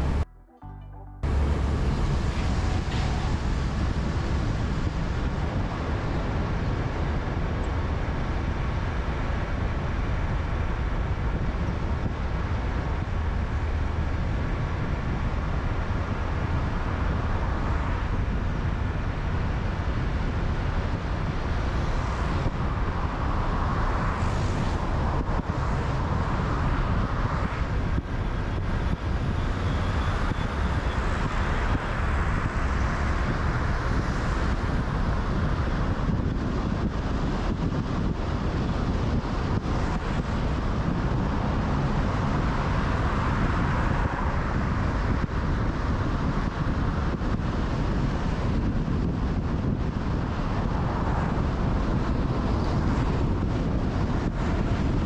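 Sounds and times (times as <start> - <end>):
car engine and tyre noise: 0.0 - 55.0
passing traffic: 0.0 - 55.0.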